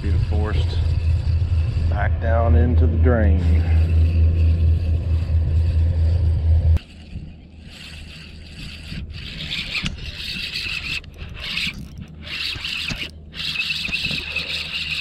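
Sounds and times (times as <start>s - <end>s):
fishing reel scratchy whirring: 0.0s - 15.0s.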